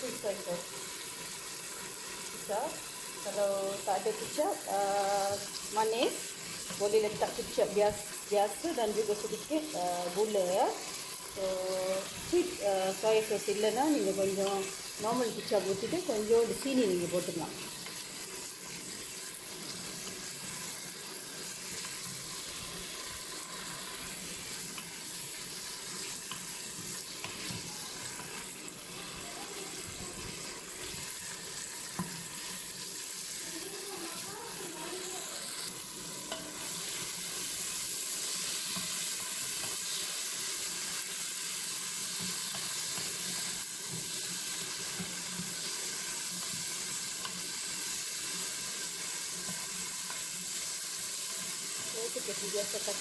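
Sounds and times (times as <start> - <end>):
meat sizzling in a pot: 0.0 - 53.0
stirring in a pot: 0.1 - 11.3, 11.9 - 53.0.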